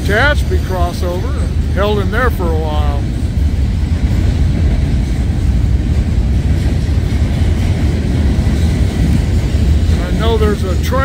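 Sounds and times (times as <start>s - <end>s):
diesel locomotives idling: 0.0s - 11.0s.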